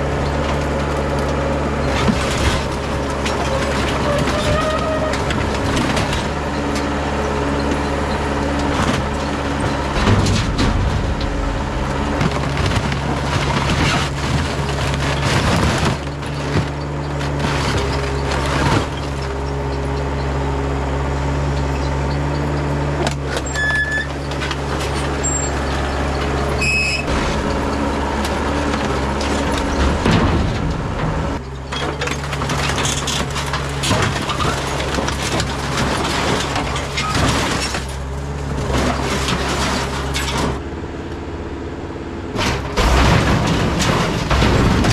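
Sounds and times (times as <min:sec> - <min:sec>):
metal clanks and knocks: 0:00.0 - 0:19.8, 0:22.1 - 0:40.6, 0:42.3 - 0:44.9
excavator diesel engine running: 0:00.0 - 0:44.9.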